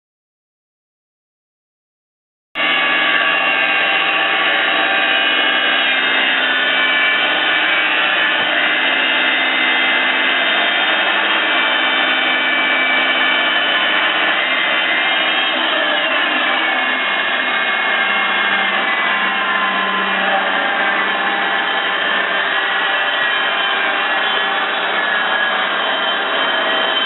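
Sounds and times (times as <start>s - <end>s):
band sawmill whining: 2.6s - 27.0s.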